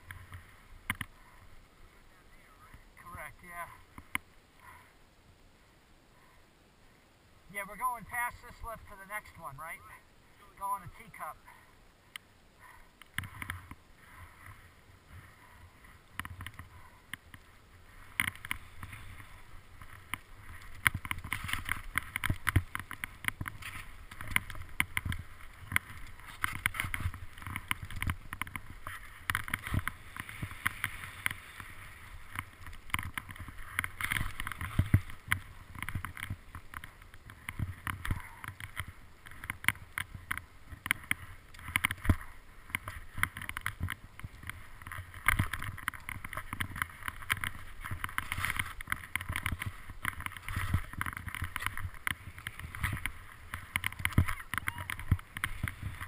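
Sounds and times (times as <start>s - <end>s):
skis sliding through snow: 7.6s - 11.7s, 12.6s - 56.0s.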